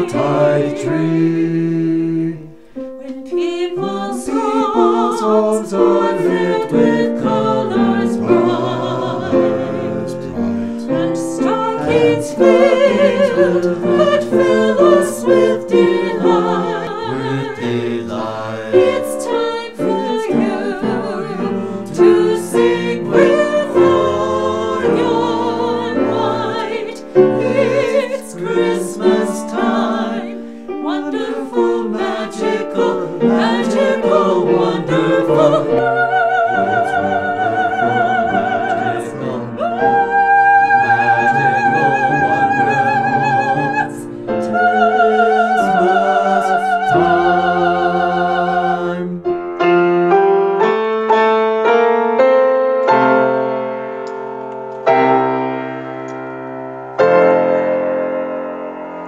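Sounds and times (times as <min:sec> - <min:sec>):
group singing carol in harmony: 0:00.0 - 0:49.3.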